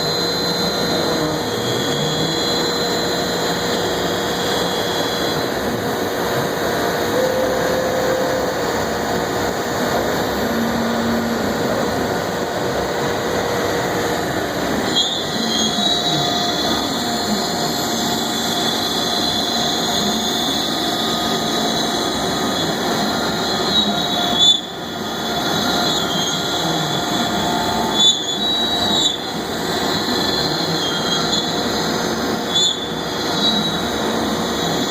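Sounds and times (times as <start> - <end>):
router machine whining: 0.0 - 34.9.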